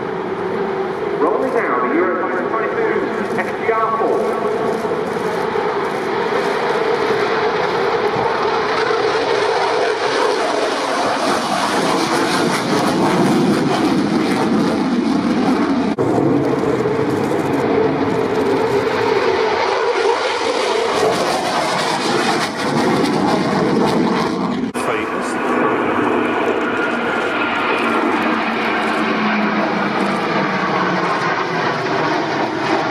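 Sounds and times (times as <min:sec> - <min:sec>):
jet engines flying past: 0:00.0 - 0:32.9.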